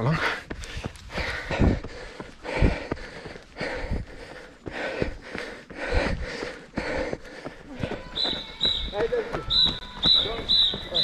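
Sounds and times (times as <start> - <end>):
runner breathing hard: 0.0 - 10.0.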